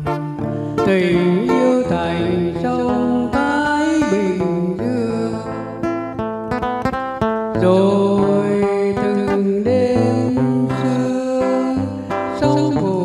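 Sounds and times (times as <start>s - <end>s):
man singing into a microphone: 0.0s - 6.0s, 7.5s - 13.0s
plucked acoustic guitar: 0.0s - 13.0s.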